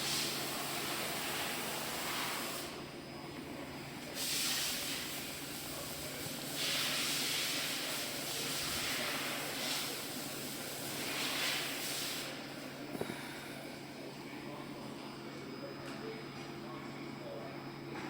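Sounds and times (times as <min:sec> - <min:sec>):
machine low hum: 0:00.0 - 0:09.3, 0:12.3 - 0:18.0.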